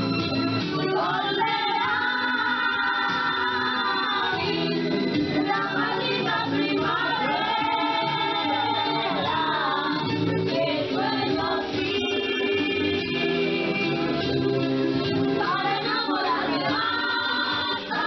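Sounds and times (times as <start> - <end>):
song with lead singer: 0.0 - 18.0.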